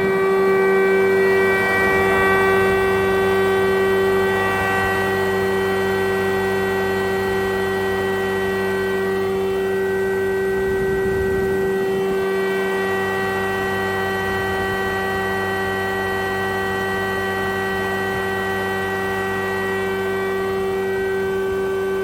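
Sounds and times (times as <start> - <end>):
thickness planer whining: 0.0 - 22.0.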